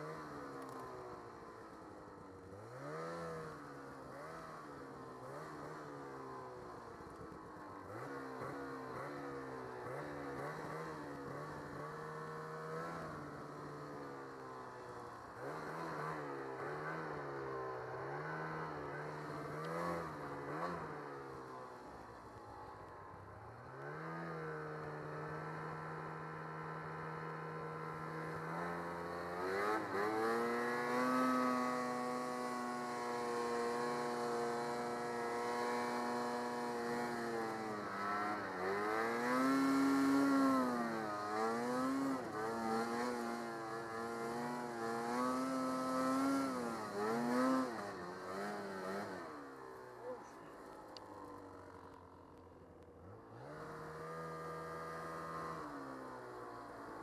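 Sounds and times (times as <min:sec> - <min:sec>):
snowmobile engine revving: 0:02.5 - 0:06.6, 0:07.8 - 0:13.3, 0:15.4 - 0:21.4, 0:23.7 - 0:50.6, 0:53.0 - 0:56.4.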